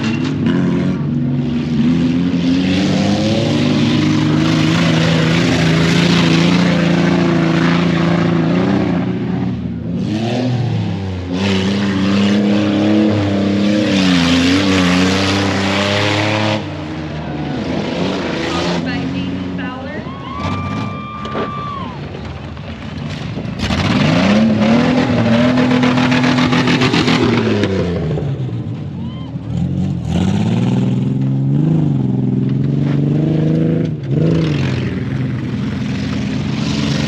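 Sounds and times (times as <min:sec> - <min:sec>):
race truck engine revving: 0:00.0 - 0:37.0.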